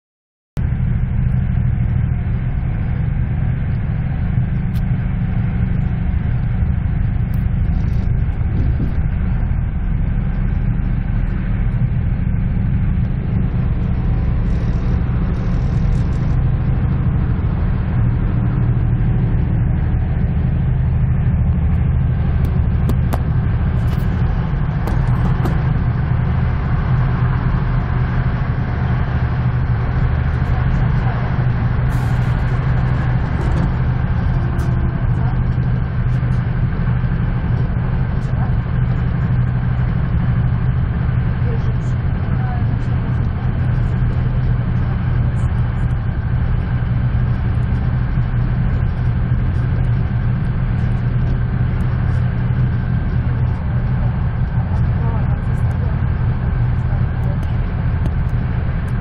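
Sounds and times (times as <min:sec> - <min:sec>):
train rumbling on rails: 0:00.6 - 0:59.0.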